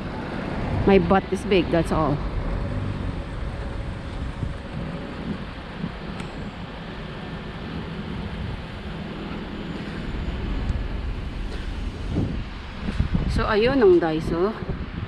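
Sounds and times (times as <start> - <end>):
vehicles going by: 0.0 - 15.0.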